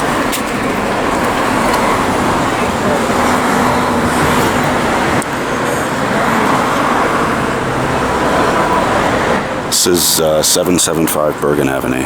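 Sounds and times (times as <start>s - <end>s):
passing road traffic: 0.0s - 12.0s.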